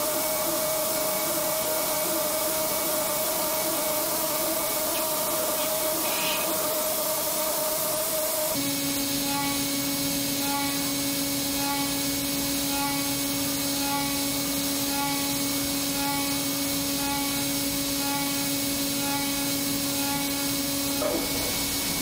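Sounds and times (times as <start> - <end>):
milling machine spindle whine: 0.0 - 22.0.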